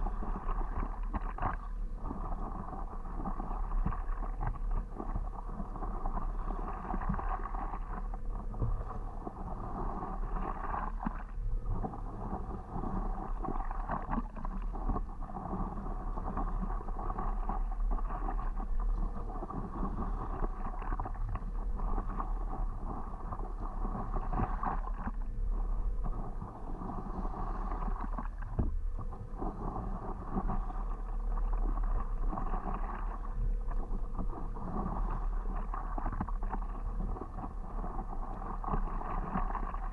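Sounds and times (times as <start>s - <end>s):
paddle strokes: 0.0s - 39.9s
steady low rumble: 0.0s - 39.9s
water lapping: 0.0s - 39.9s.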